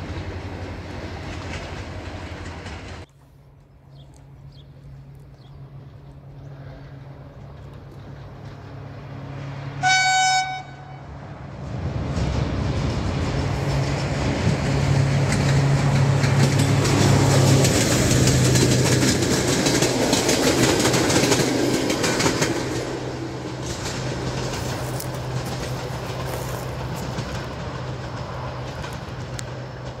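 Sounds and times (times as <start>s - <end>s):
train wheels clattering over rails: 0.0s - 3.1s, 7.0s - 9.7s, 11.5s - 30.0s
locomotive engine drone: 0.0s - 30.0s.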